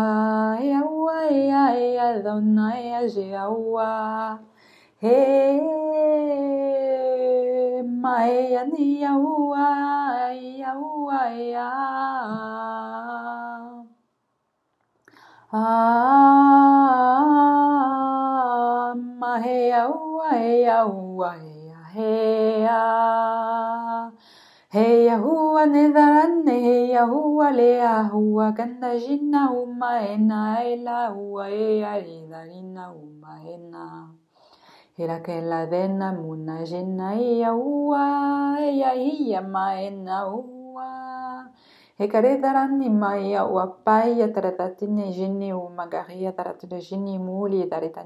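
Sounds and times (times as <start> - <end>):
woman singing wordless chant: 0.0 - 14.0, 15.4 - 48.0.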